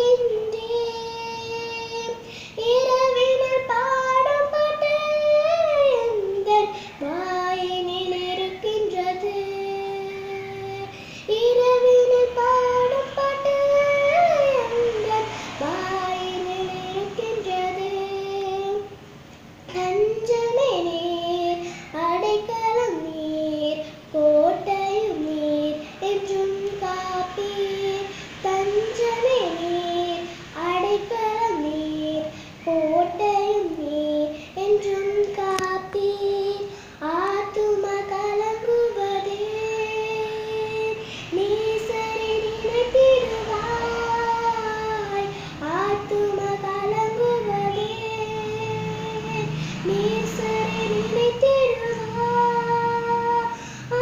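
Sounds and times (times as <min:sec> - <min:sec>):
girl singing unaccompanied: 0:00.0 - 0:54.0.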